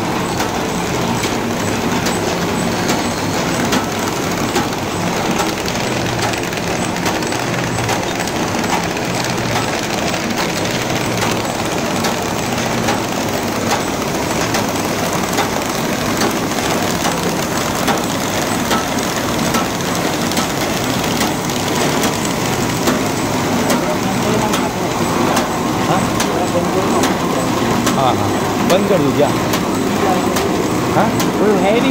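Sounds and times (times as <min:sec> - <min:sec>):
machine clattering with clicks: 0:00.0 - 0:31.9.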